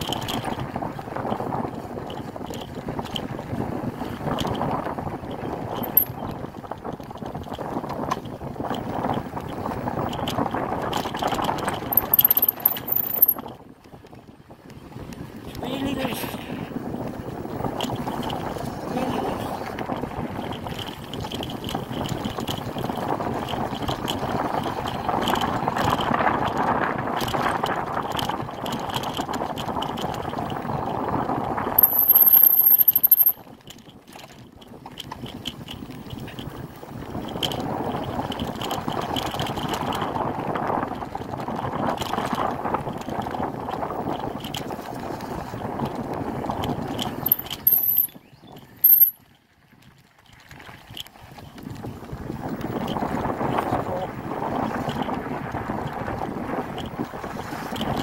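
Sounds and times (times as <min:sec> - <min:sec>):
bicycle rolling over dirt trail: 0:00.0 - 0:12.1, 0:12.8 - 0:15.7, 0:16.8 - 0:31.8, 0:33.3 - 0:58.0.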